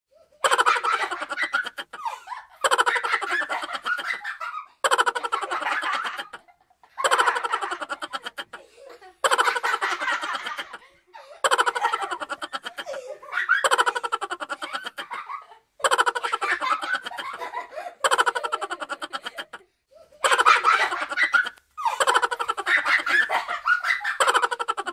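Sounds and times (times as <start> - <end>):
person laughing: 0.4 - 4.2, 4.8 - 6.4, 7.0 - 8.6, 9.2 - 10.8, 11.4 - 15.2, 15.8 - 19.6, 20.2 - 24.9.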